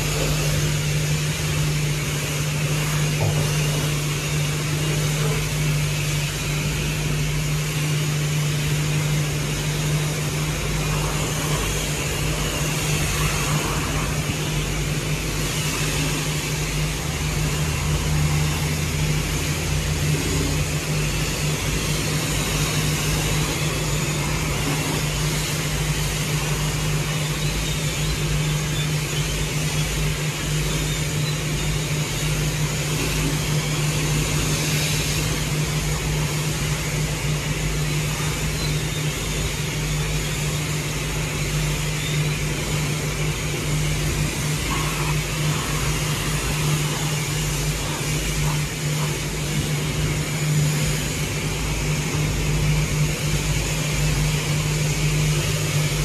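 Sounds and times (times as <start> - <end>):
motor hum: 0.0 - 56.0.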